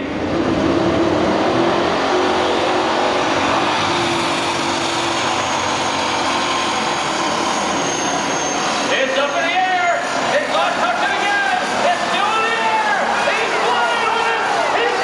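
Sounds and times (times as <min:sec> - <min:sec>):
diesel tractor at full power: 0:00.0 - 0:15.0.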